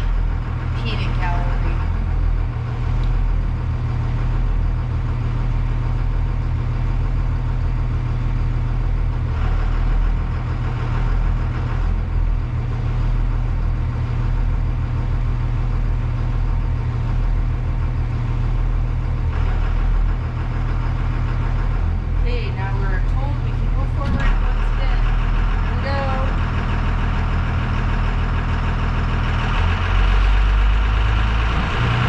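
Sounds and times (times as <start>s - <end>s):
diesel bus engine idling: 0.0s - 32.0s.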